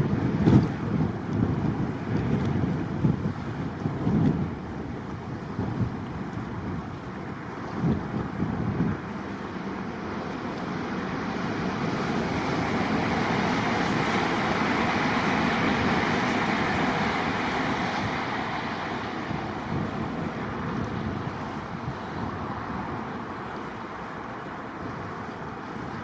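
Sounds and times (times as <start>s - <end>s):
high-speed train passing: 0.0s - 26.0s
wind on microphone: 0.0s - 26.0s.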